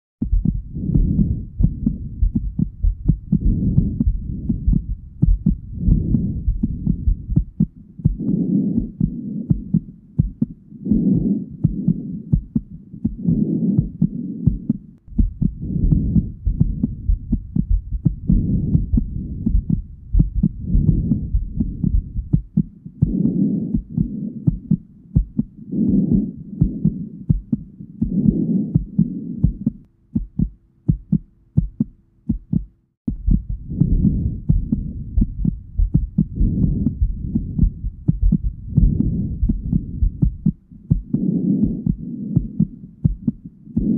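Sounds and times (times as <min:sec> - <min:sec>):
faint hum: 0:00.2 - 0:43.9
heartbeat through stethoscope: 0:00.2 - 0:43.9.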